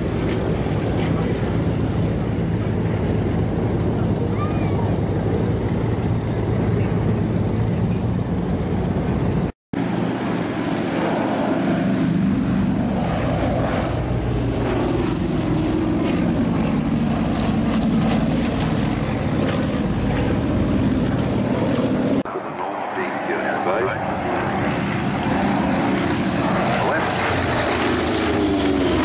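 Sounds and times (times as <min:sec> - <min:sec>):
propeller plane engines droning: 0:00.0 - 0:29.0.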